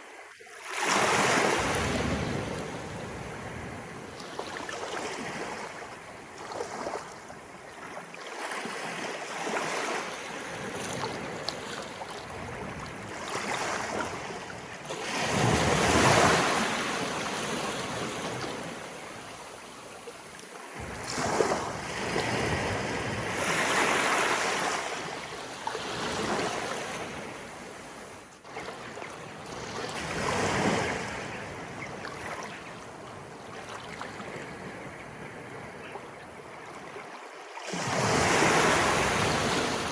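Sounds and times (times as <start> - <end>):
sea waves breaking: 0.6 - 39.9.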